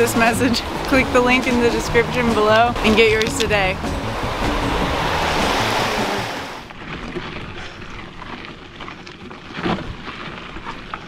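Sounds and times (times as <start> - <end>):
rushing creek water: 0.0 - 9.1.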